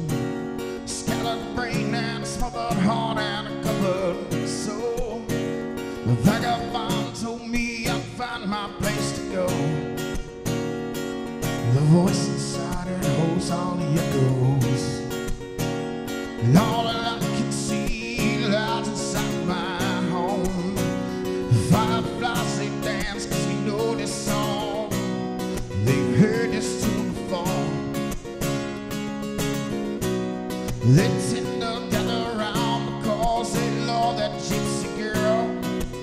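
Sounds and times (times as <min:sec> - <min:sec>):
man singing country song: 0:00.0 - 0:10.6, 0:11.2 - 0:36.0
acoustic guitar strumming: 0:00.0 - 0:36.0.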